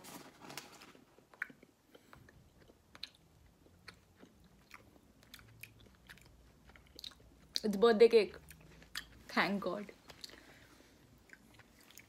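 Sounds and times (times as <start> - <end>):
faint chewing: 1.1 - 9.3, 10.0 - 12.0.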